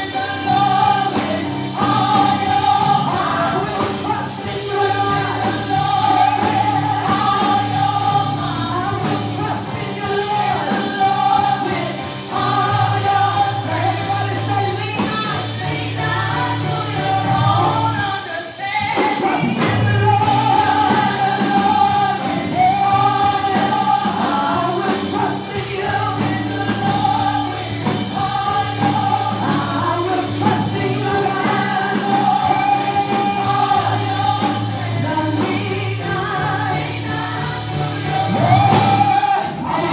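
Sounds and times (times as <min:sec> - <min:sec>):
band with steady bass line: 0:00.0 - 0:39.9
gospel choir singing: 0:00.0 - 0:39.9.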